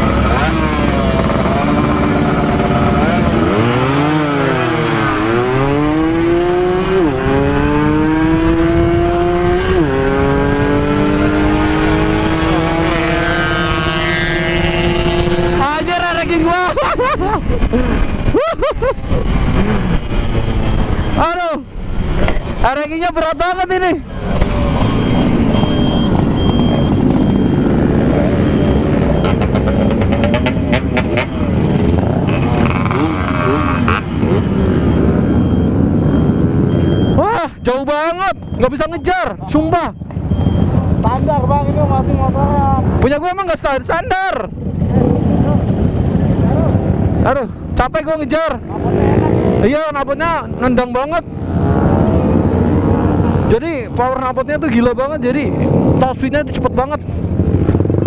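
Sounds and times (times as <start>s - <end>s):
two-stroke motorcycle revving: 0.0s - 58.0s.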